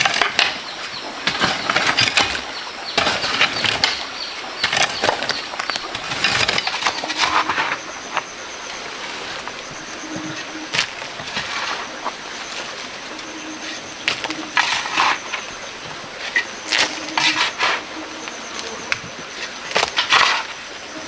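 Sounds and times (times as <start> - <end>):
tools scraping and crunching: 0.0 - 21.0.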